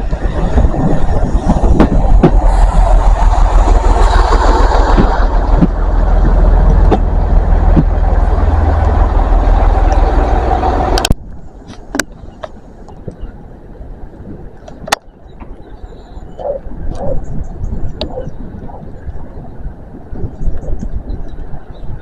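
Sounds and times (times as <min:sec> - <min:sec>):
train passing rumble: 0:00.0 - 0:20.2.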